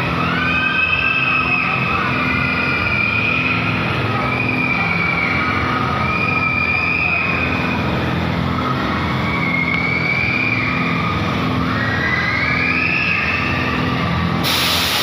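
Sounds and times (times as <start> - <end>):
machine humming and whining: 0.0 - 15.0.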